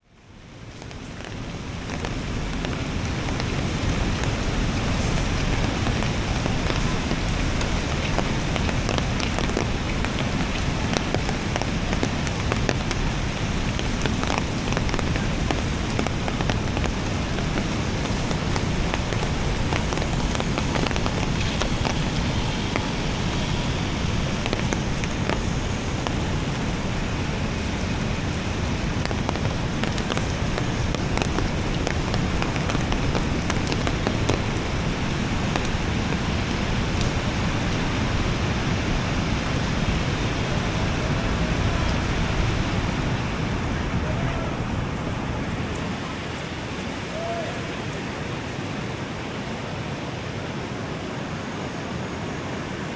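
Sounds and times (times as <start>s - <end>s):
continuous low rumble: 0.1s - 52.9s
raindrops ticking: 0.4s - 46.4s.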